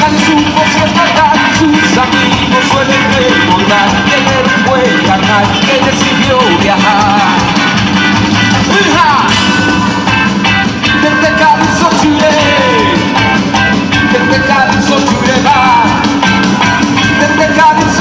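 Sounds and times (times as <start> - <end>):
ska-rock band playing live: 0.0 - 18.0.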